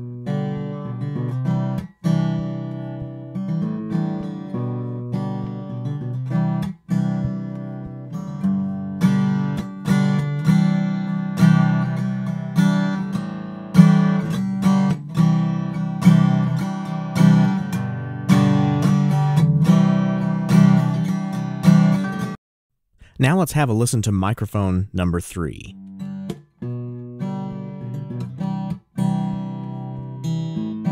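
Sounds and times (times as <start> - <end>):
acoustic guitar strumming chords: 0.0 - 22.4, 23.0 - 30.9.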